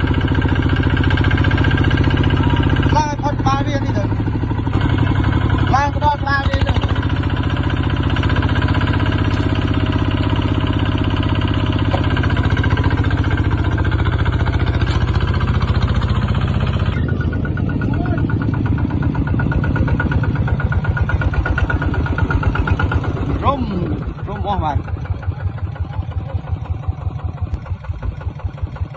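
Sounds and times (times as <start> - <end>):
single-cylinder diesel engine running: 0.0 - 28.9.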